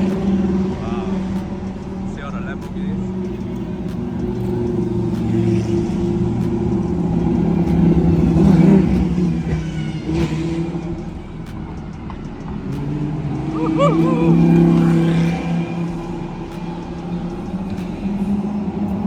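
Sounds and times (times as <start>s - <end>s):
race car engines at low revs: 0.0s - 19.0s.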